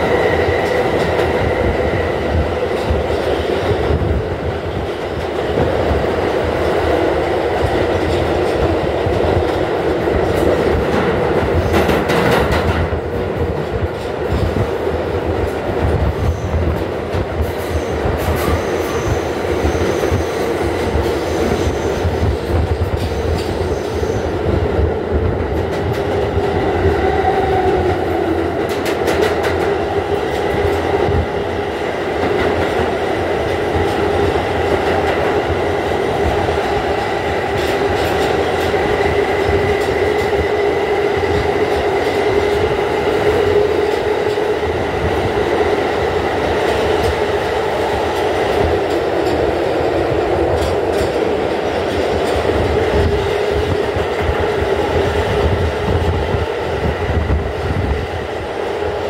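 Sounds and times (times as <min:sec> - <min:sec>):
subway car wheels rumbling on rail: 0:00.0 - 0:59.0.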